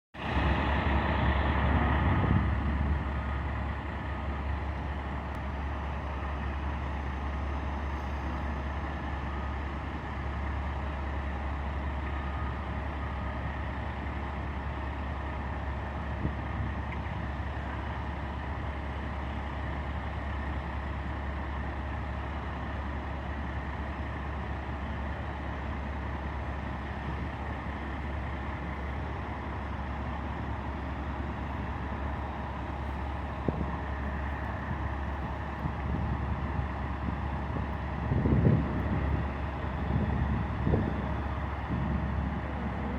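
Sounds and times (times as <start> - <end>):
engine low rumble: 0.1 - 42.9.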